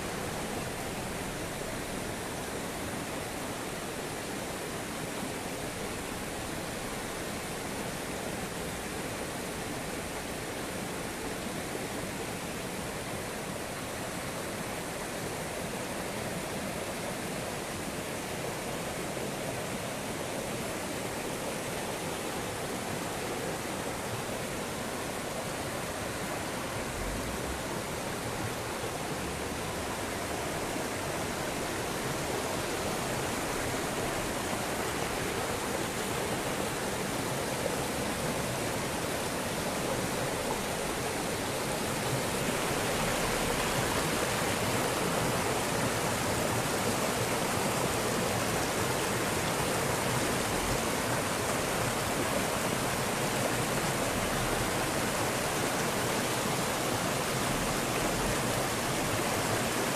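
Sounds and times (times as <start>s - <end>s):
floodwater rushing down a road: 0.0s - 59.9s.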